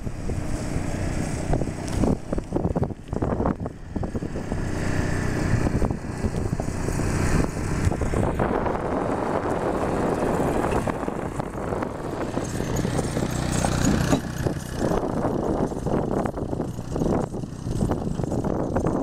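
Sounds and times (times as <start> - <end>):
low engine drone: 0.0 - 19.0
wind buffeting microphone: 0.0 - 19.0.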